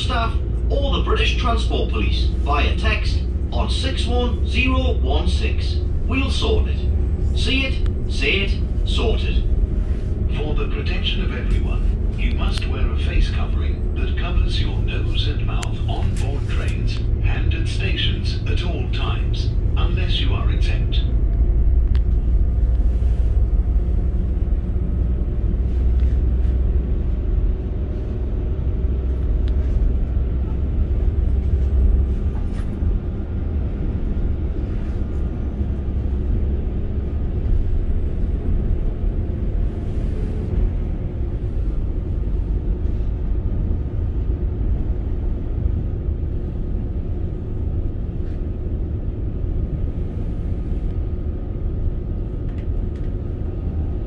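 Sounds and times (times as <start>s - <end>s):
train rumbling at speed: 0.0s - 54.0s.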